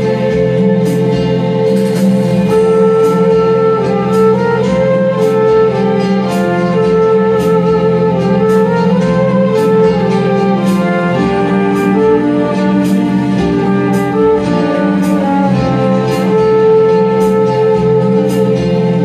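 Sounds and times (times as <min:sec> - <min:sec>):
backing track with steady beat: 0:00.0 - 0:19.0
flugelhorn playing slow melody: 0:02.5 - 0:19.0.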